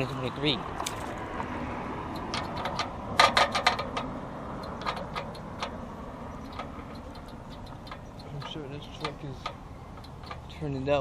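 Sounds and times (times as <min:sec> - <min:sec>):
road and wind noise: 0:00.0 - 0:11.0
bicycle ticking and clicking: 0:00.8 - 0:10.6.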